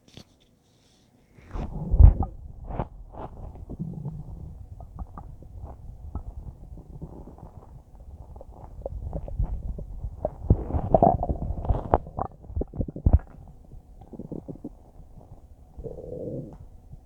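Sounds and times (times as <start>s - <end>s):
stomach gurgling and popping: 1.4s - 17.0s.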